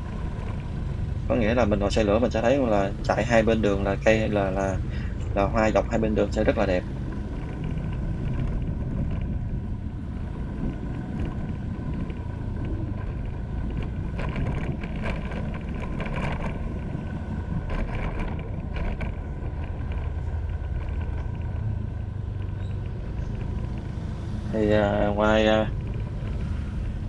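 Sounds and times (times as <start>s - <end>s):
motorbike engine rumble: 0.0s - 27.0s
wind on microphone: 0.0s - 27.0s.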